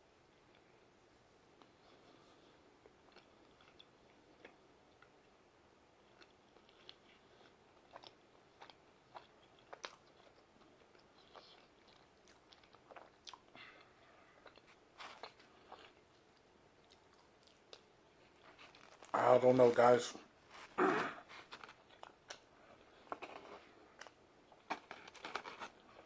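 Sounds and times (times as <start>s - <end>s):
man chewing food: 0.2s - 19.1s, 20.3s - 26.0s.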